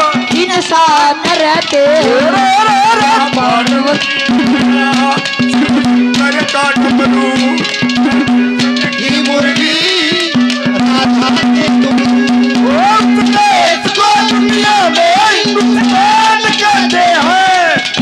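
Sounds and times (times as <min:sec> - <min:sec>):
fast hand drums: 0:00.0 - 0:18.0
wavering melody: 0:00.0 - 0:18.0.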